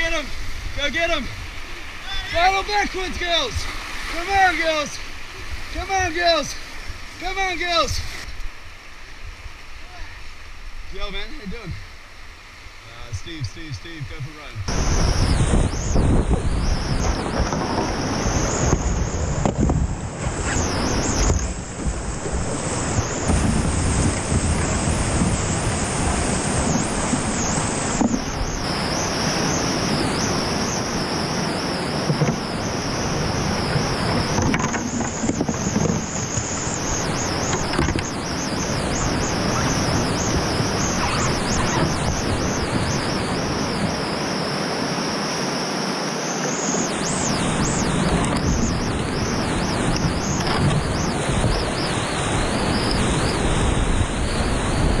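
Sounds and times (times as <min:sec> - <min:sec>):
whitewater river roaring: 0:00.0 - 0:11.6, 0:14.7 - 0:55.0.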